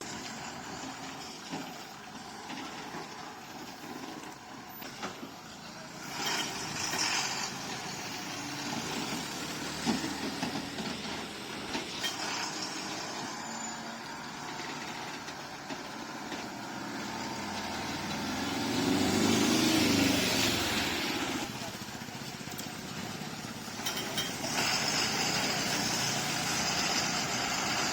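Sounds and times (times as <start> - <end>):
truck engine idling: 0.0 - 27.9.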